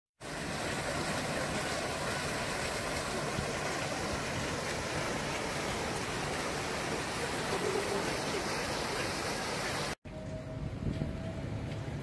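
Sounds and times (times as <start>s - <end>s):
fountain water splashing into basin: 0.2s - 10.0s.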